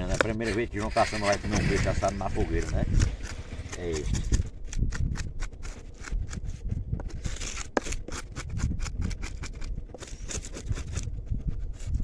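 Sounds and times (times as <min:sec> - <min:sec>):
knife scraping fish scales: 0:00.0 - 0:12.0.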